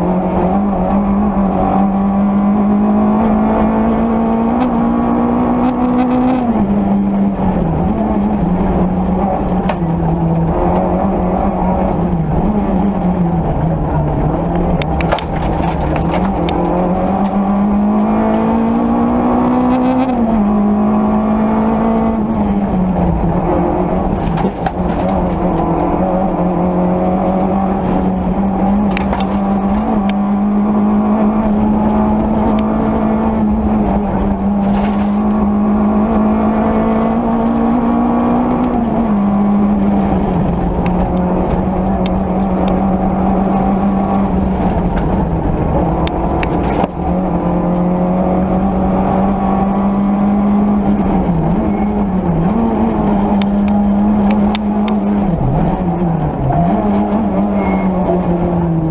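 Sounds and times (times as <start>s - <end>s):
car engine running hard: 0.0s - 58.9s
tyre and road noise: 0.0s - 58.9s.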